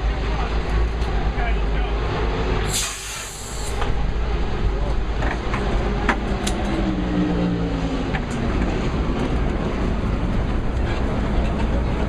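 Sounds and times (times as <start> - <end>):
steady deep rumble: 0.0 - 12.0.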